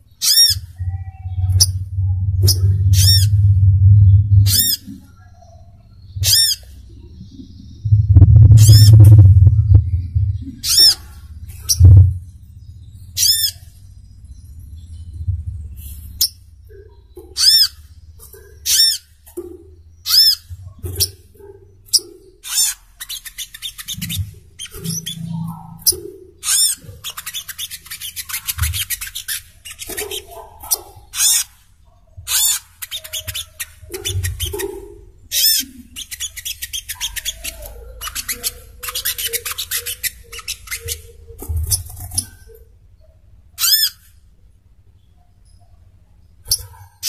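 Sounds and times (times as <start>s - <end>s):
songbird chattering trills: 0.0s - 31.6s, 32.2s - 47.0s.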